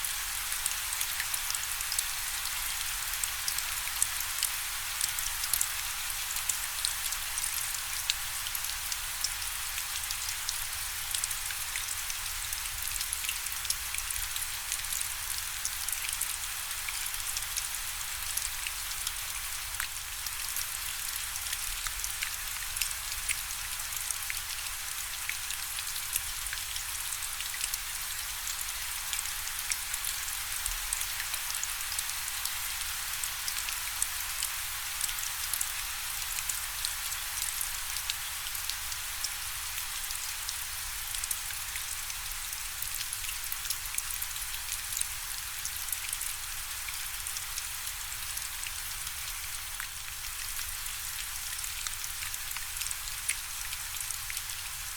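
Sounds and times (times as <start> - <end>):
raindrops ticking on a surface: 0.1 - 54.9.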